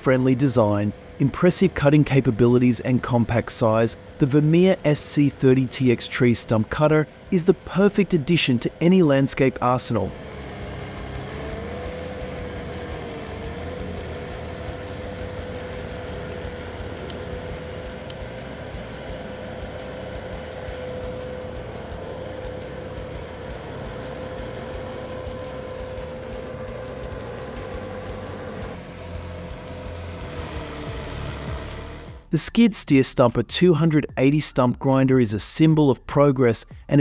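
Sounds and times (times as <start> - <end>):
stump cutter grinding stump: 0.0 - 32.3.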